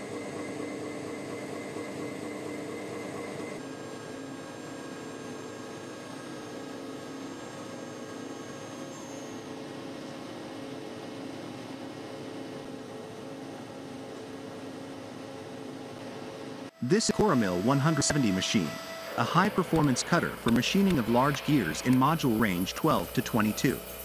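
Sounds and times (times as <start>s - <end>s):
machine humming and hissing: 0.0s - 24.0s.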